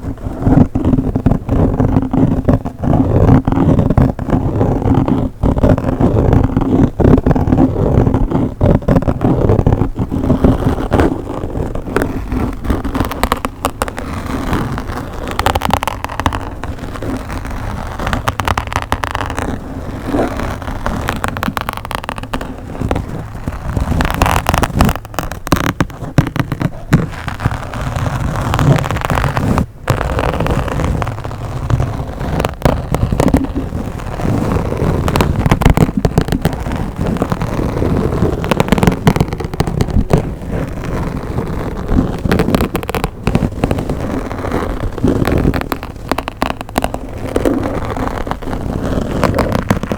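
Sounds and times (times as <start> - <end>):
scratching on a microphone: 0.0 - 49.9.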